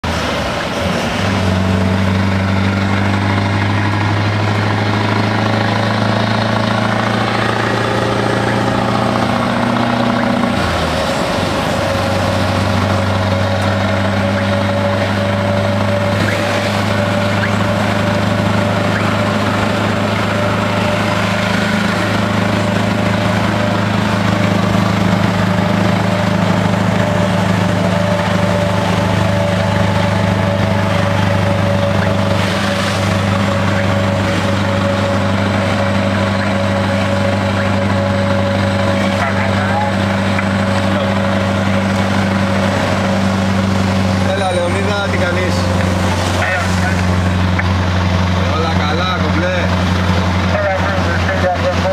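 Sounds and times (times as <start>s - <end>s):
road noise: 0.0s - 51.9s
truck diesel engine drone: 0.0s - 51.9s.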